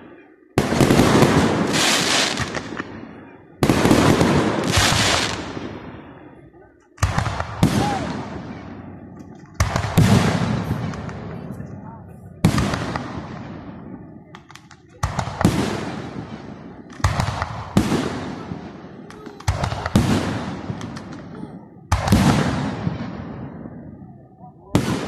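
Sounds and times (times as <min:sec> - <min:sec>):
firework shells booming: 0:00.6 - 0:06.0, 0:07.0 - 0:11.7, 0:12.4 - 0:23.8, 0:24.7 - 0:25.0.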